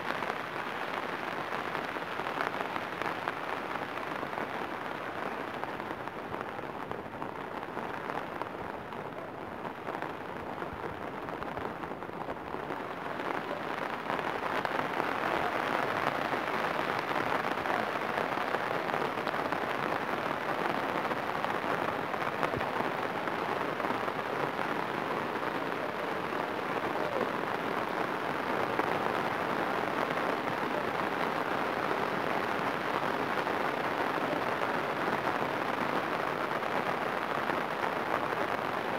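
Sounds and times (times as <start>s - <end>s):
heavy rain on water: 0.0s - 38.9s.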